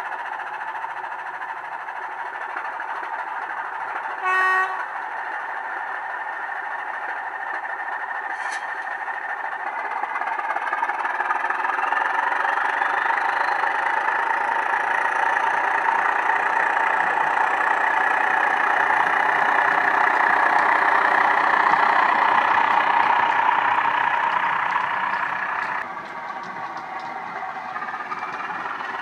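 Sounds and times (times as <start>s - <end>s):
model locomotive diesel engine sound: 0.0s - 29.0s.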